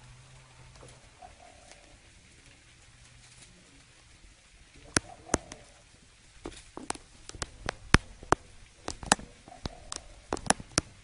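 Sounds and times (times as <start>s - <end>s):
bird clicking and tapping in leaves: 0.0s - 11.0s.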